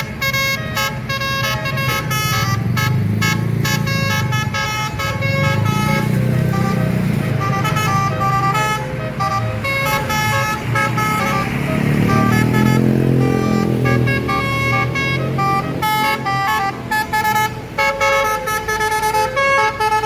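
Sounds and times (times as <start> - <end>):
bus engine running: 0.0 - 20.0
musical air horn tune: 0.0 - 20.0.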